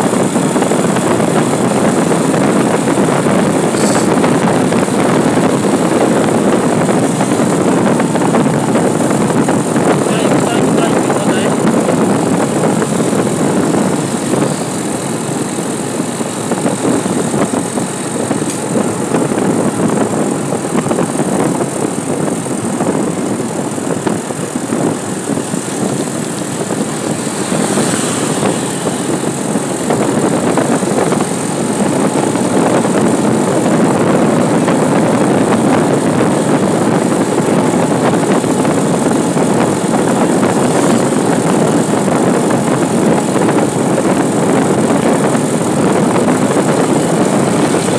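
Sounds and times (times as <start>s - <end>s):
vehicle engine on paved road: 0.0s - 47.9s
wind rushing: 0.0s - 47.9s.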